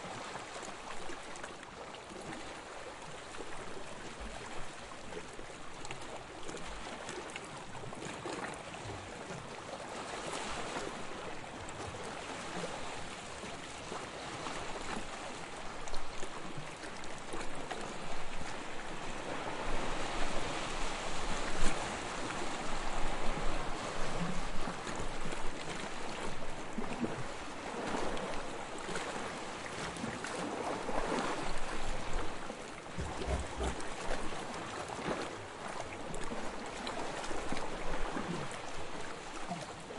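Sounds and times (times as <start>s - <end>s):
waves lapping on sandy shore: 0.0s - 39.9s.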